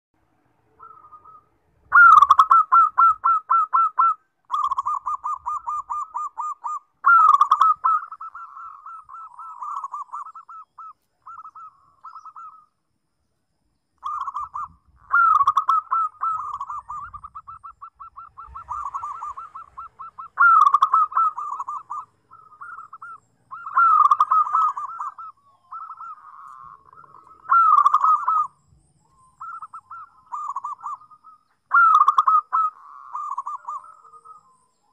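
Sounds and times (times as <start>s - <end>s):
dove cooing: 0.8s - 12.7s, 14.0s - 34.9s.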